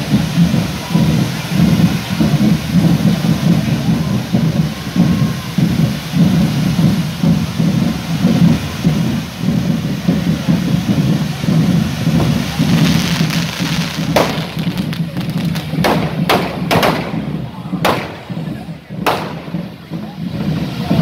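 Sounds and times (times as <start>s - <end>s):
firework fountains hissing and crackling: 0.0s - 21.0s.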